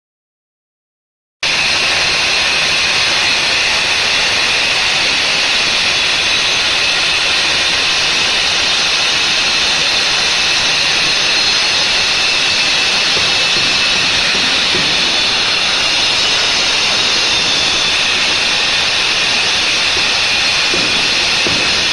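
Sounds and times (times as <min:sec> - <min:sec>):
wall chaser hissing: 0:01.4 - 0:21.9.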